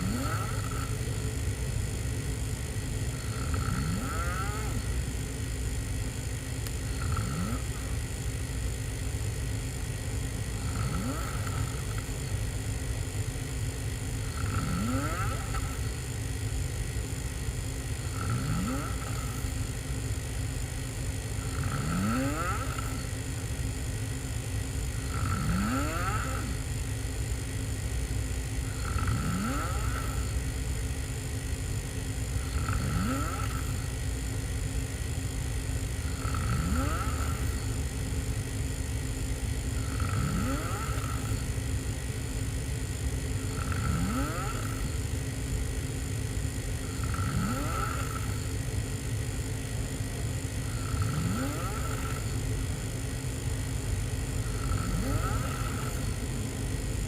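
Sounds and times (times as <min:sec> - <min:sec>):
person snoring: 0:00.0 - 0:01.5, 0:02.3 - 0:05.6, 0:06.3 - 0:09.6, 0:10.2 - 0:12.6, 0:13.9 - 0:24.0, 0:24.6 - 0:26.9, 0:28.6 - 0:30.8, 0:32.2 - 0:34.2, 0:35.4 - 0:45.4, 0:46.6 - 0:48.8, 0:49.6 - 0:57.0
steady low hum: 0:00.0 - 0:57.0.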